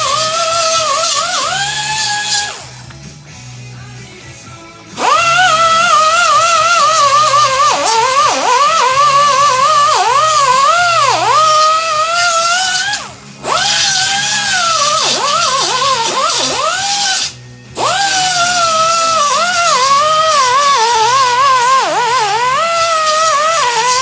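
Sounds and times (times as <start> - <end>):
air grinder whining on metal: 0.0 - 24.0.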